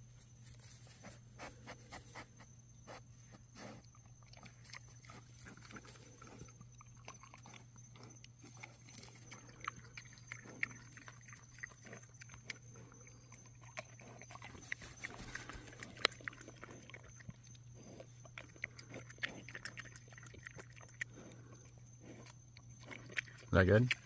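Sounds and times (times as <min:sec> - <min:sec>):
pet animal playing: 0:00.0 - 0:24.0.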